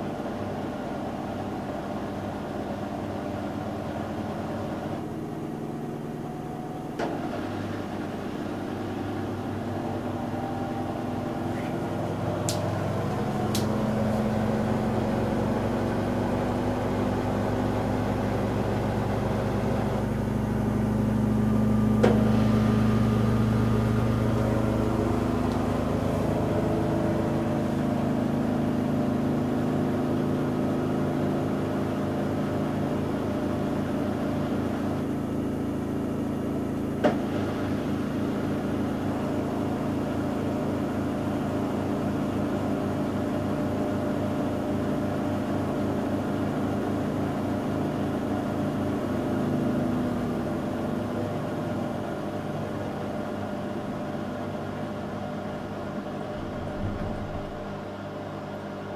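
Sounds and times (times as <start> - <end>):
washing machine humming: 0.0 - 58.9.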